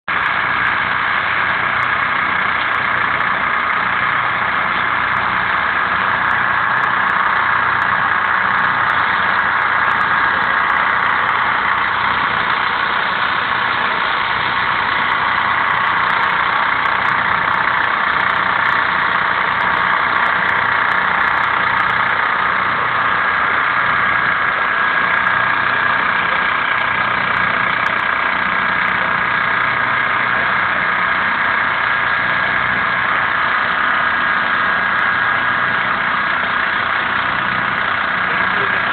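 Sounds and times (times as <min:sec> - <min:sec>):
engine running with high whine: 0:00.0 - 0:38.9.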